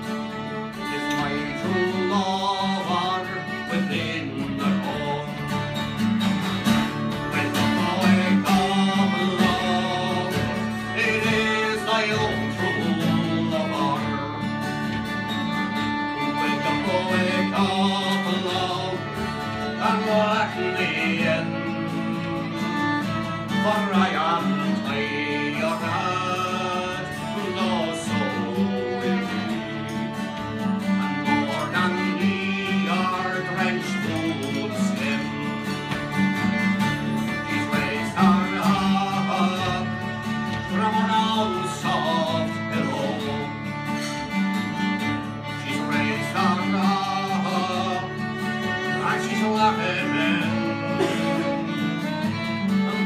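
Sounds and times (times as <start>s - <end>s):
fiddle playing folk tune: 0.0s - 53.0s
plucked string accompaniment: 0.0s - 53.0s.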